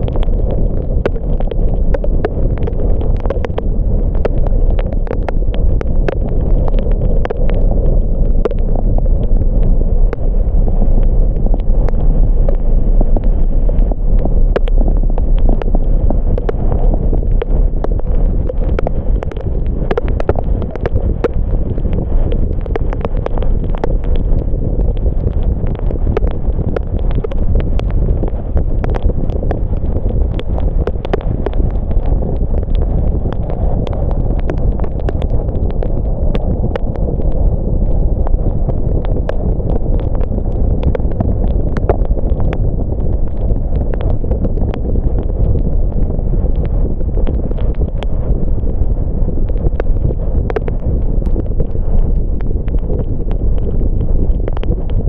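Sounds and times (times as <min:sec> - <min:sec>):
faint steady hum: 0:00.0 - 0:55.0
raindrops tapping: 0:00.0 - 0:55.0
wind buffeting microphone: 0:00.0 - 0:55.0.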